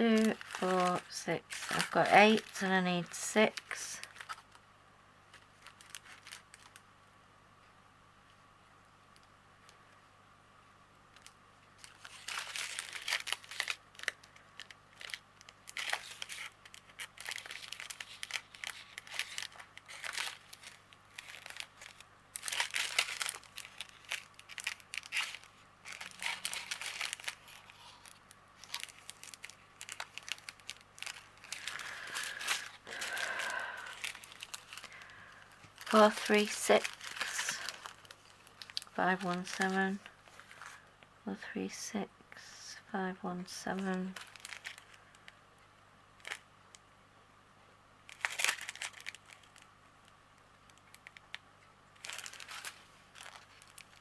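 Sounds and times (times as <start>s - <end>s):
plastic packets crinkling: 0.0s - 4.6s, 5.3s - 6.8s, 11.1s - 41.0s, 43.7s - 45.4s, 46.2s - 46.5s, 48.0s - 51.4s, 52.0s - 54.0s.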